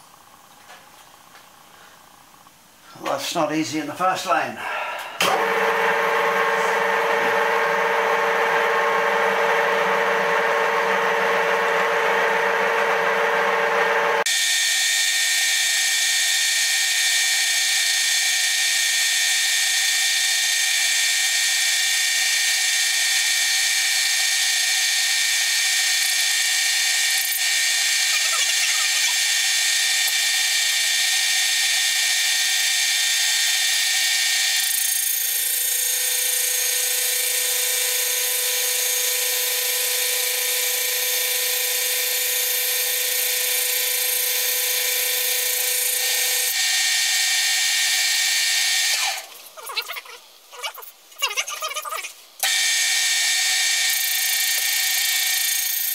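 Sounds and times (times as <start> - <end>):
milling machine cutting whine: 5.2 - 49.5, 52.4 - 55.9.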